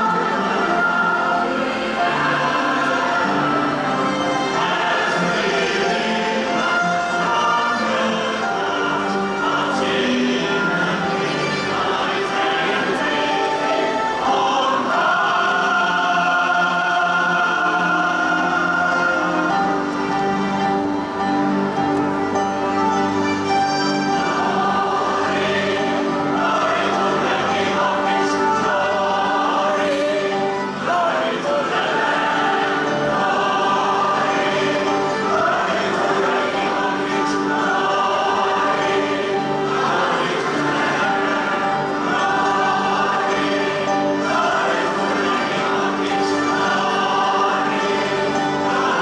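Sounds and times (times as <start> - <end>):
choir singing a hymn: 0.0 - 49.0.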